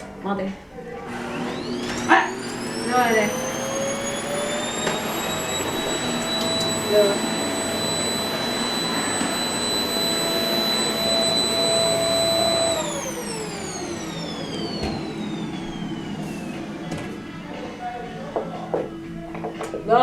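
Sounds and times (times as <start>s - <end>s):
vacuum cleaner whine: 0.0s - 20.0s
vacuum motor spinning down: 0.8s - 19.3s.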